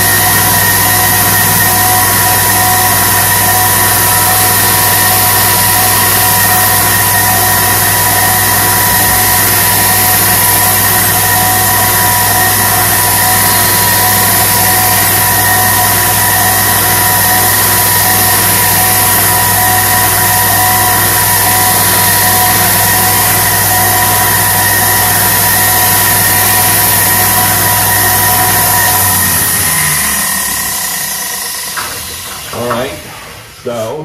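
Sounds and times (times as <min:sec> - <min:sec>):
belt sander running: 0:00.0 - 0:33.6.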